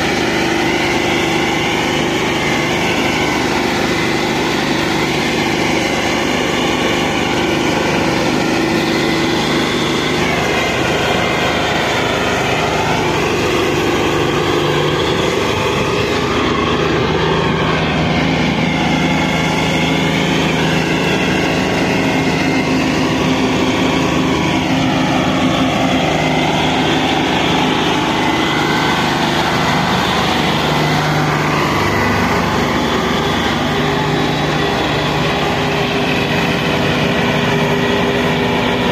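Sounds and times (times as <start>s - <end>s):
diesel tractor engine under load: 0.0s - 38.9s.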